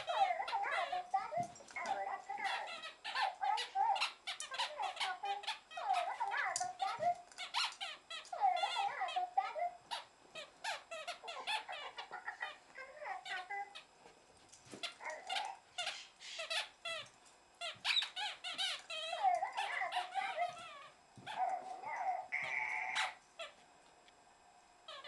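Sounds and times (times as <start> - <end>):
squeaky electronic toy sounds: 0.0 - 13.9, 14.8 - 23.6.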